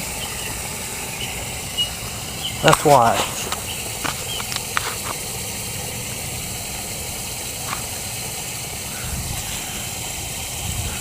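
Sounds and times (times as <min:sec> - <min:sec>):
water rushing from leaking pipe: 0:00.0 - 0:11.0.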